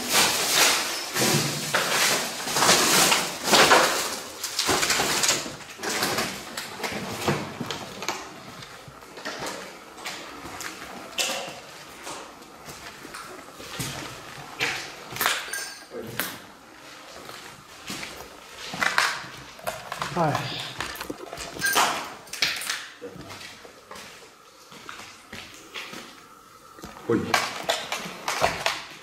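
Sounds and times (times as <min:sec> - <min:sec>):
footsteps crunching over debris: 0:00.0 - 0:28.2.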